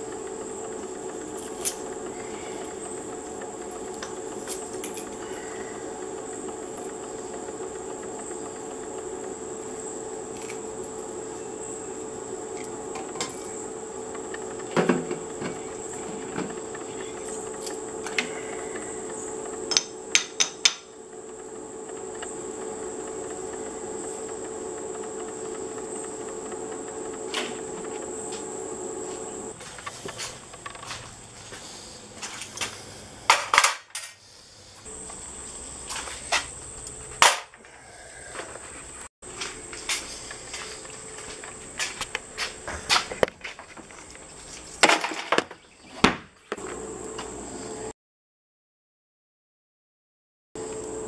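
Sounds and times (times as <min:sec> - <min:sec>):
steady background drone: 0:00.0 - 0:44.9.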